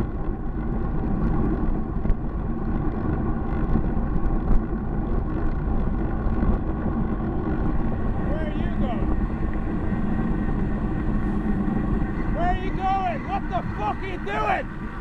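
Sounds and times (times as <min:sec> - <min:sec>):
bus engine and tyres: 0:00.0 - 0:15.0
wind rumble on microphone: 0:00.0 - 0:15.0.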